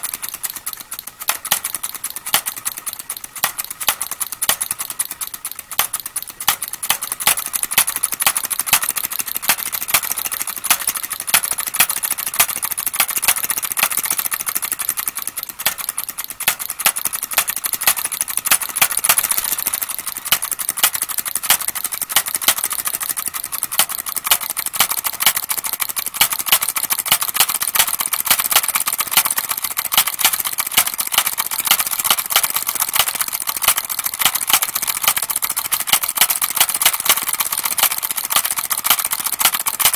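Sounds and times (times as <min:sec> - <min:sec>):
engine popping and clattering: 0:00.0 - 0:39.9.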